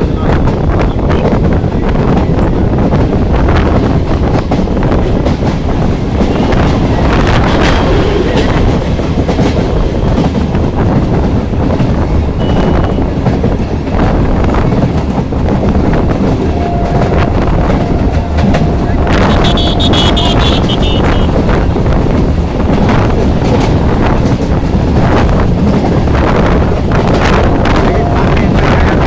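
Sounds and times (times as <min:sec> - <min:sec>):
train rumbling along track: 0:00.0 - 0:29.0
wheels clattering over rails: 0:02.2 - 0:12.5, 0:13.1 - 0:27.9.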